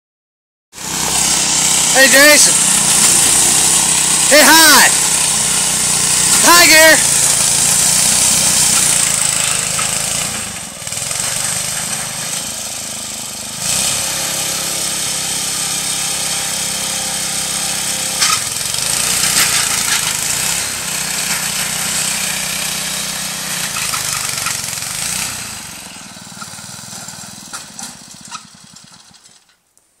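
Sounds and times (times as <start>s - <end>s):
rotary tiller engine running: 0.8s - 29.5s.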